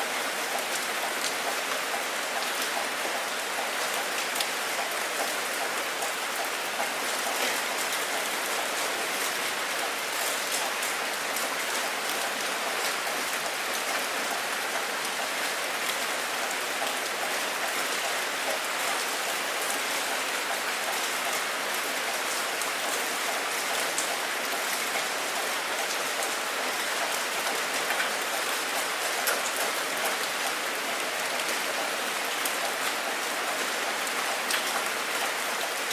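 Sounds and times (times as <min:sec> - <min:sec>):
steady rainfall: 0:00.0 - 0:35.9.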